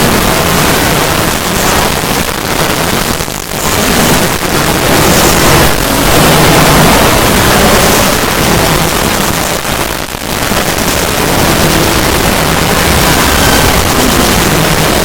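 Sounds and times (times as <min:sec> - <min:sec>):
loud dense rushing noise: 0:00.0 - 0:15.0.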